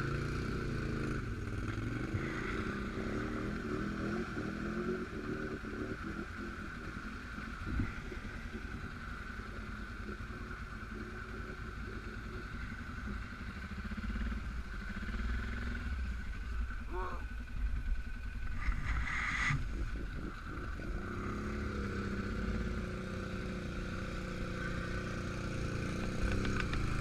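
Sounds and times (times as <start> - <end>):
quad bike engine revving: 0.0 - 16.2, 18.6 - 27.0.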